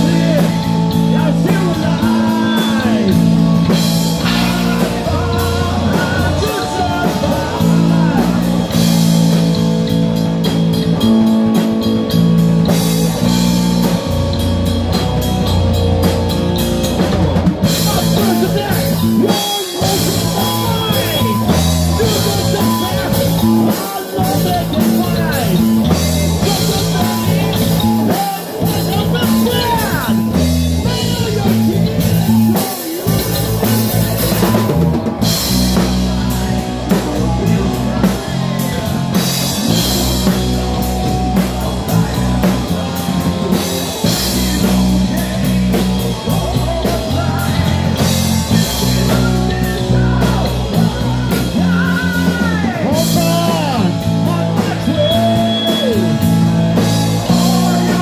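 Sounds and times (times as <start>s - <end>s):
person singing: 0.0s - 9.6s, 16.9s - 58.0s
fast dense drumming: 0.0s - 58.0s
heavy metal band playing: 0.0s - 58.0s.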